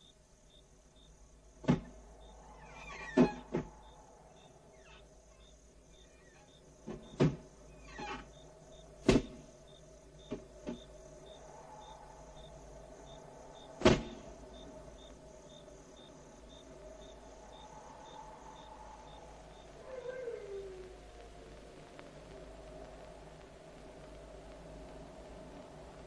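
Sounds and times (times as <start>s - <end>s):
faint steady hum: 0.0s - 26.0s
faint high ticking: 3.6s - 26.0s.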